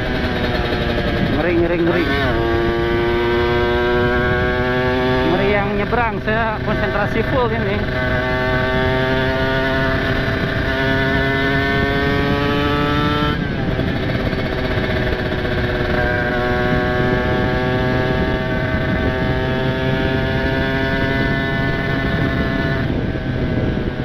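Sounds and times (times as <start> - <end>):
two-stroke motorcycle accelerating: 0.0 - 24.0.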